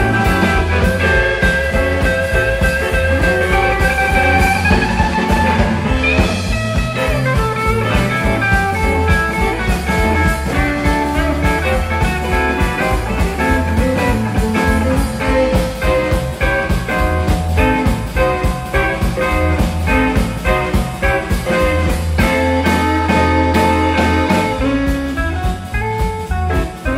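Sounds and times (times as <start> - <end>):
bass guitar: 0.0 - 26.9
drum beat: 0.0 - 26.9
electric guitars: 0.0 - 26.9.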